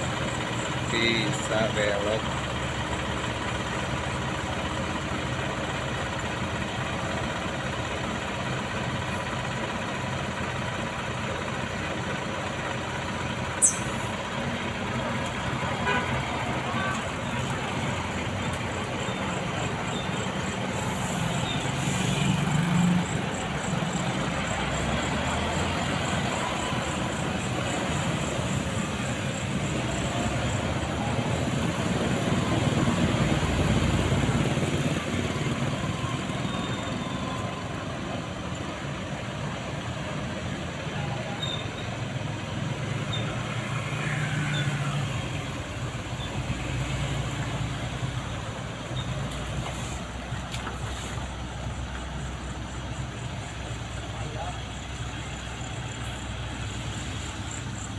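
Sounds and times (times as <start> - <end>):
heavy truck engine running: 0.0 - 57.9
road traffic noise: 0.0 - 57.9.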